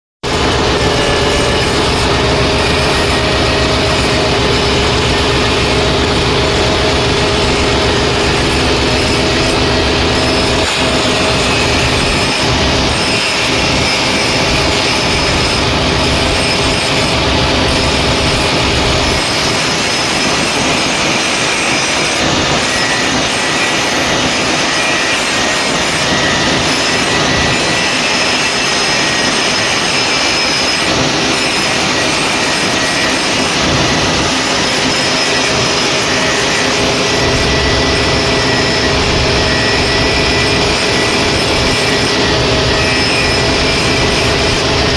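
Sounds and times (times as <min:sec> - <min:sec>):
loud machine noise: 0:00.2 - 0:44.9.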